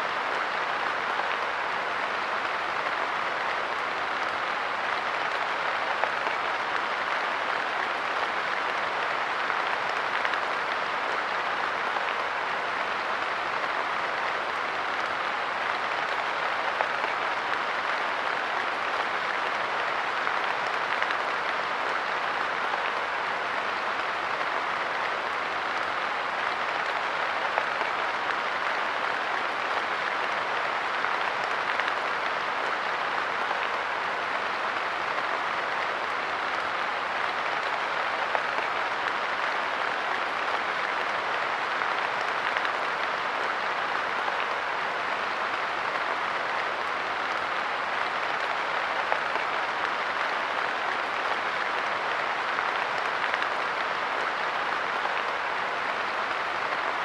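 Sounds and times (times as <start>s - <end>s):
light rain pattering: 0.0s - 57.0s.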